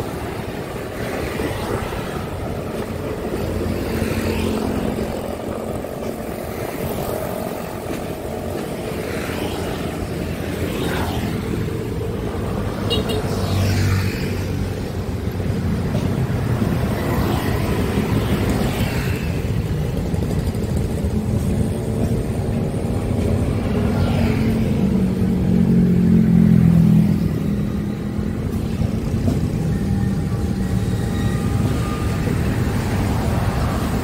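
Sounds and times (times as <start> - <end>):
freight train rolling: 0.0 - 34.0
low locomotive engine: 0.0 - 34.0
motorcycles and cars passing: 0.0 - 34.0.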